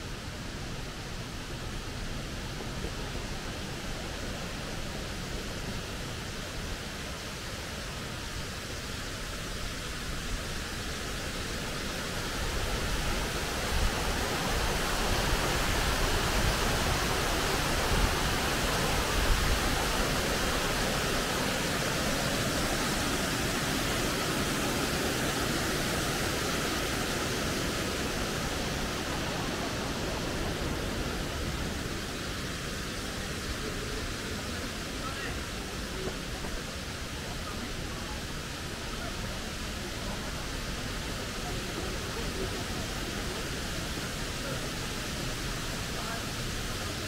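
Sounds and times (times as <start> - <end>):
stream rushing over boulders: 0.0 - 47.0.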